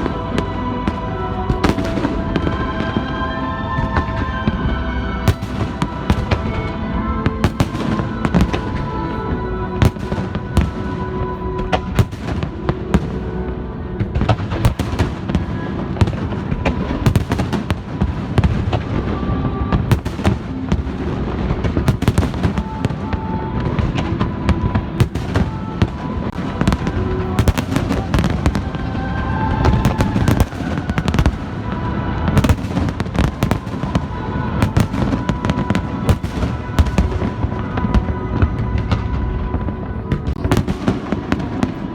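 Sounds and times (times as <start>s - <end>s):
fireworks bangs and crackles: 0.0s - 41.9s
music playing: 0.0s - 41.9s.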